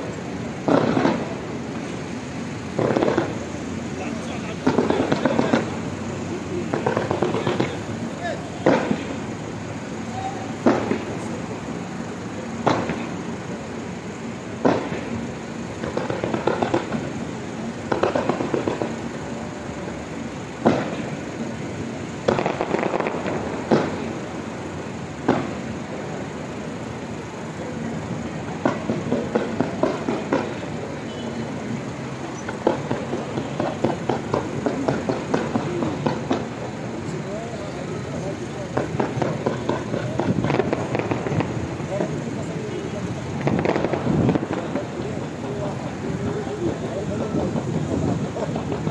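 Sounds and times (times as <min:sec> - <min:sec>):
firework bangs: 0:00.0 - 0:48.9
firework crackling pops: 0:00.0 - 0:48.9.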